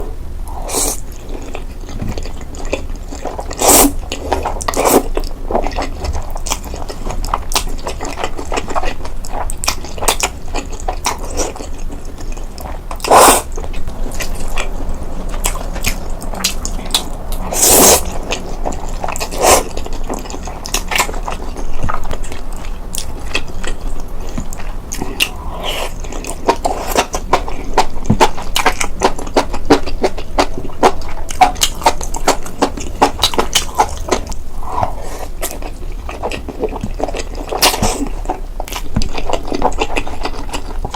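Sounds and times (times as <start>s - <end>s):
eating and chewing: 0.0s - 40.9s.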